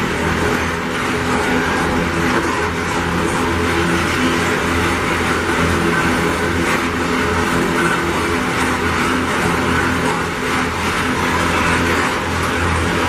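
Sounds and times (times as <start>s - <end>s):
low humming tones: 0.0s - 13.0s
steel wheels rumbling on rail: 0.0s - 13.0s.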